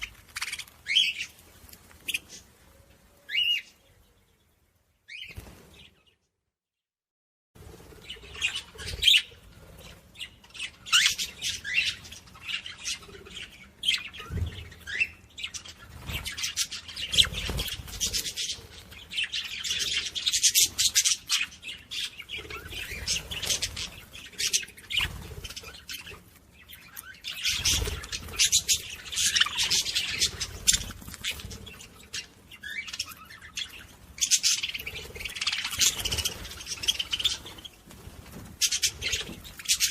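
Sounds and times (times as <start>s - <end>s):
parrots chirping and squawking: 0.0s - 2.6s, 8.0s - 39.9s.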